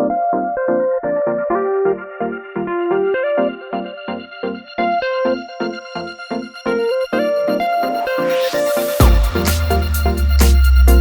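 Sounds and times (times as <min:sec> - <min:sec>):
pulsing chord accompaniment: 0:00.0 - 0:11.0
synthesizer melody: 0:00.0 - 0:11.0.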